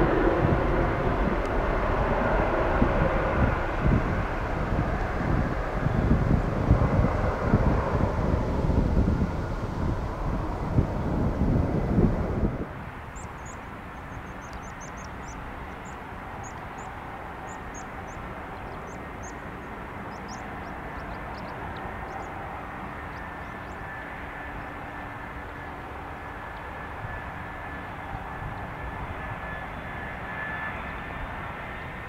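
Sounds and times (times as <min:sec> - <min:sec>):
distant jet airliner rumble: 0:00.0 - 0:32.0.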